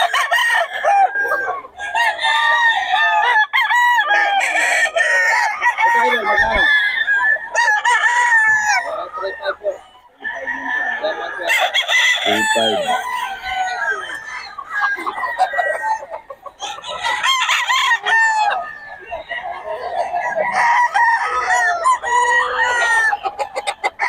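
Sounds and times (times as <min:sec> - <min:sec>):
roosters crowing: 0:00.0 - 0:24.0.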